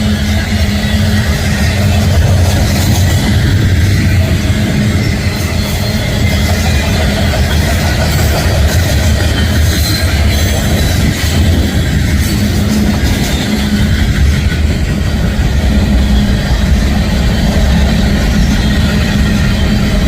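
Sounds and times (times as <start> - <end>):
freight train rumbling past: 0.0 - 20.0
train wheel clatter: 0.0 - 20.0.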